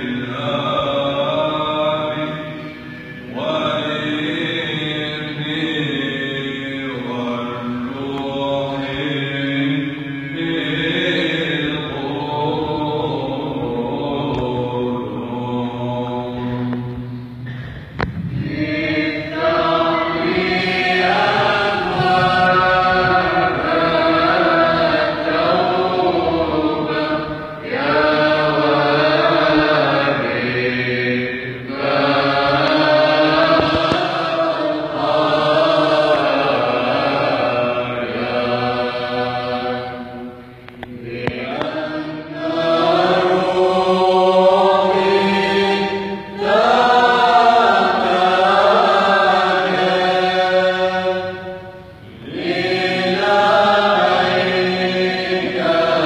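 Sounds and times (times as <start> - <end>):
choir chanting a hymn: 0.0 - 56.0.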